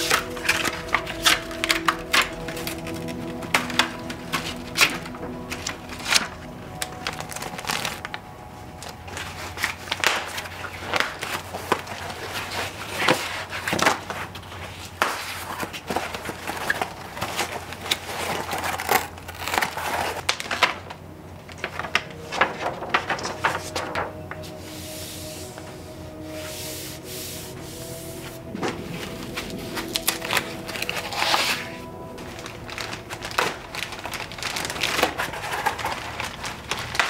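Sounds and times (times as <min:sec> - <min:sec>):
plastic wrap crinkling: 0:00.0 - 0:37.0.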